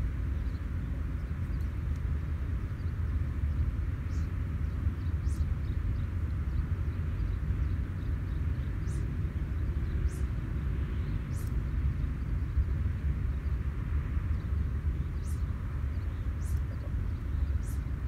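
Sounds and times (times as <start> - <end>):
soft outdoor hiss: 0.0 - 18.0
wind buffeting microphone: 0.0 - 18.0.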